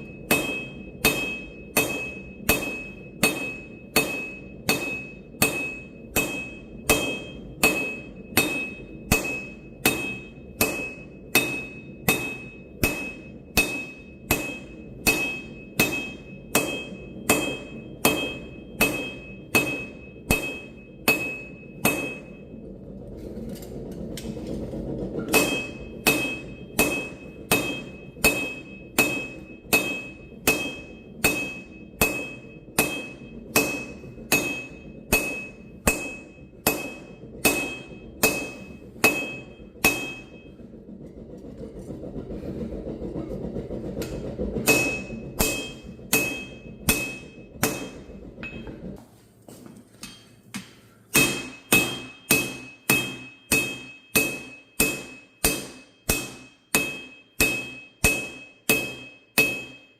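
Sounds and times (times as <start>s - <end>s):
hammer ringing on anvil: 0.0s - 22.6s, 25.2s - 40.6s, 44.6s - 48.9s, 51.1s - 59.9s.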